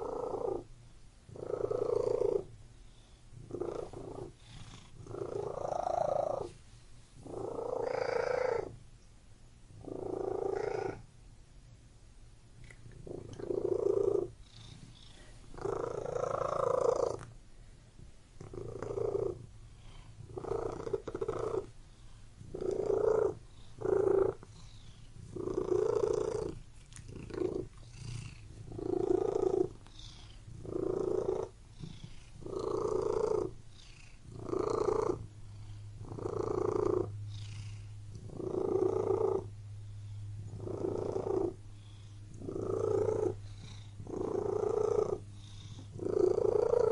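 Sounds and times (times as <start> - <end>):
cat purring: 0.0 - 0.7, 1.3 - 6.6, 7.2 - 8.8, 9.7 - 11.1, 12.6 - 17.4, 18.3 - 46.9.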